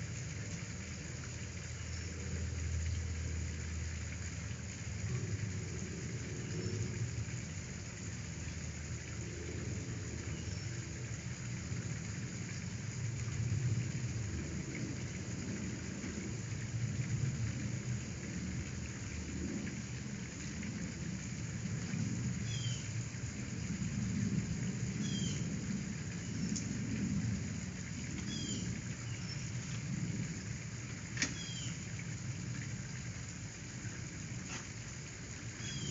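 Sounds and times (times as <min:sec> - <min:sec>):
low wavering rumble: 0:00.0 - 0:34.3.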